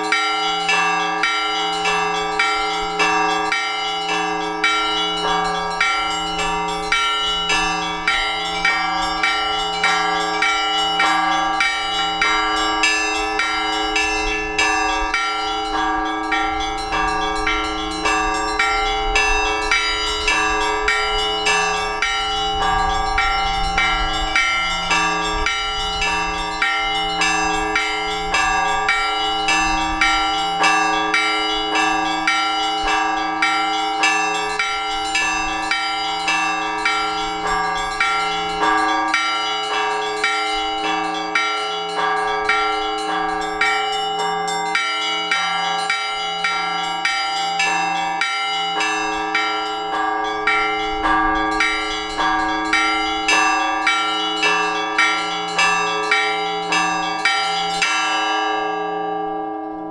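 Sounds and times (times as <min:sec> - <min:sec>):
low bell striking: 0:00.0 - 0:59.9
small bells ringing rhythmically: 0:00.0 - 0:59.9.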